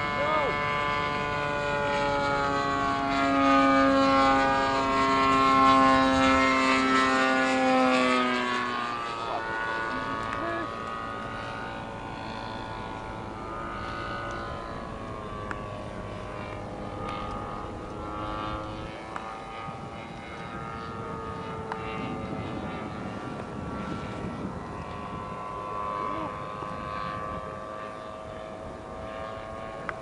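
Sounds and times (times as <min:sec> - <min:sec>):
model airplane engine drone: 0:00.0 - 0:30.0.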